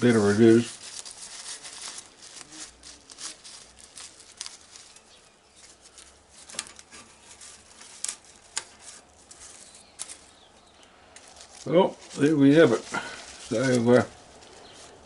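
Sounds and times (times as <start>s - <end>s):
small crackles and ticks: 0.0s - 12.3s
leaf rustling and tearing: 0.0s - 15.0s.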